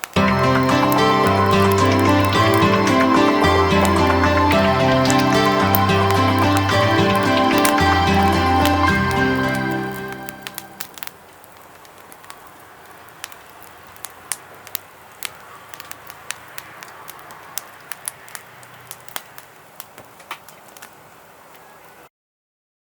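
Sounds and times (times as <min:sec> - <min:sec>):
wood fire crackling: 0:00.0 - 0:22.1.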